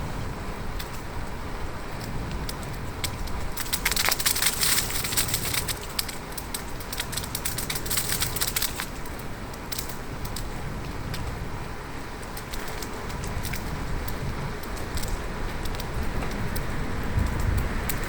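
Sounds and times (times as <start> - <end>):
low wind rumble on microphone: 0.0 - 18.0
crackling clicks: 0.8 - 1.1, 2.0 - 18.0.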